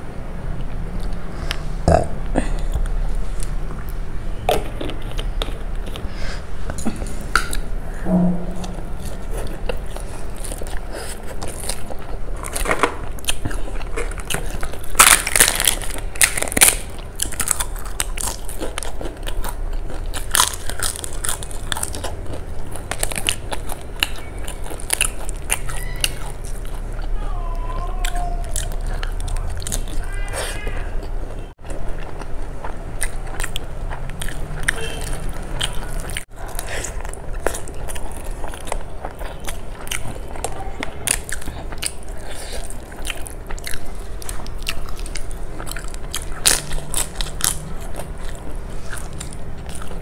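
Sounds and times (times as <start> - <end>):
person chewing food: 0.6 - 50.0.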